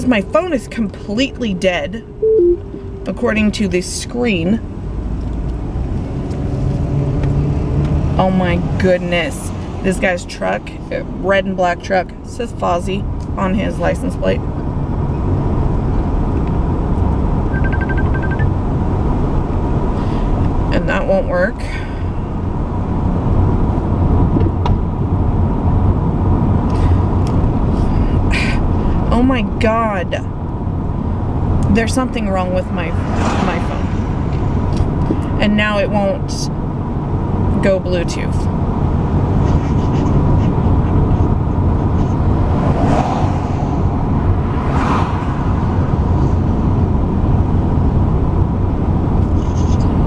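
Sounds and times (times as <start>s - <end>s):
car engine rumble and road noise: 0.0s - 50.0s.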